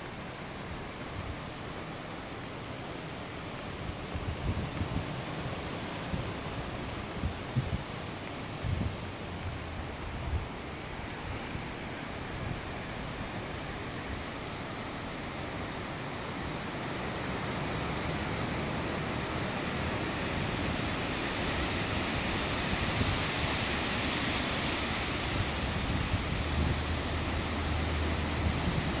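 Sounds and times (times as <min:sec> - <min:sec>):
wind rushing through trees: 0:00.0 - 0:29.0
wind gusts on microphone: 0:03.0 - 0:29.0.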